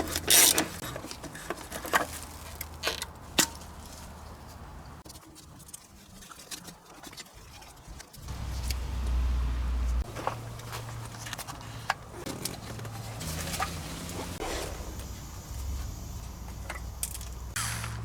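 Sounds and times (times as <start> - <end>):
small car parts clicking and scraping: 0.0 - 18.0.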